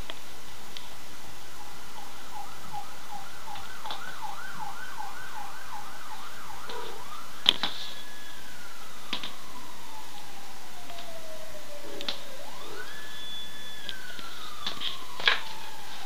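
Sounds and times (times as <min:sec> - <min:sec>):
steady hiss: 0:00.0 - 0:16.0
emergency siren yelping: 0:01.5 - 0:16.0.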